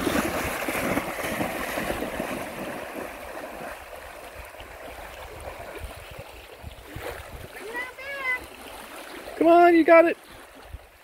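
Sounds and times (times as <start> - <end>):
water splashing around swimming dog: 0.0 - 9.4.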